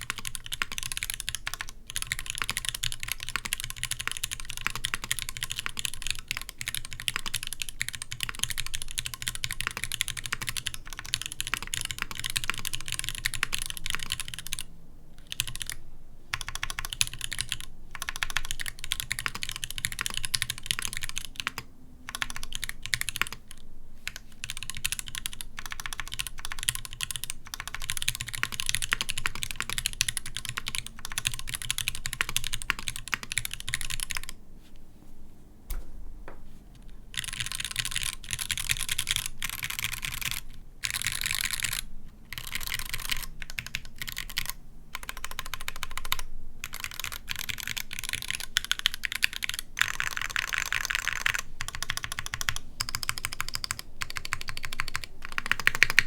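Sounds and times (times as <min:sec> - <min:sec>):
mechanical keyboard typing: 0:00.0 - 0:34.4, 0:37.1 - 0:56.0.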